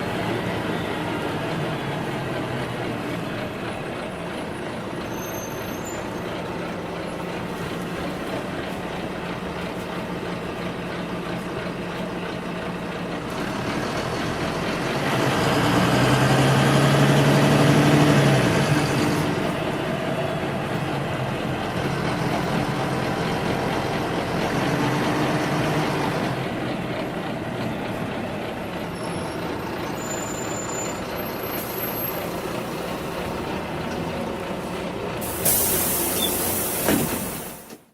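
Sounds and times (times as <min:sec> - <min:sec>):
bus engine and road noise: 0:00.0 - 0:37.9.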